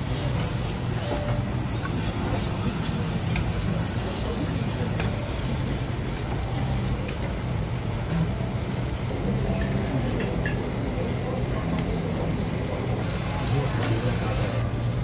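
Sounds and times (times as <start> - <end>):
griddle sizzling: 0.0 - 15.0.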